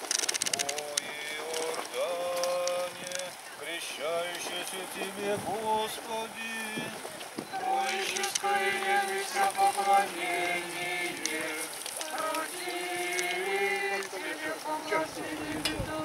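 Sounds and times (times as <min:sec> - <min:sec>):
voices singing slow chant: 0:00.6 - 0:16.0.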